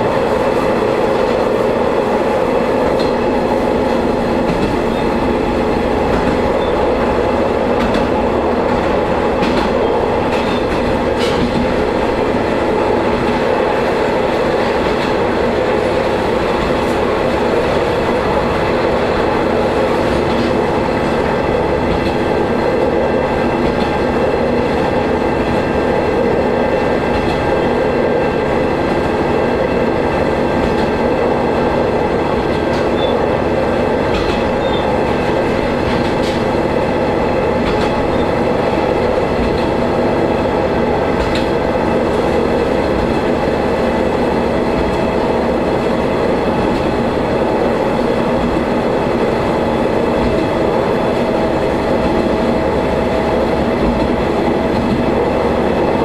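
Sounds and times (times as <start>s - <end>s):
diesel railcar engine hum: 0.0s - 56.0s
rail joint clicks: 0.0s - 56.0s
wheel and rail noise: 0.0s - 56.0s.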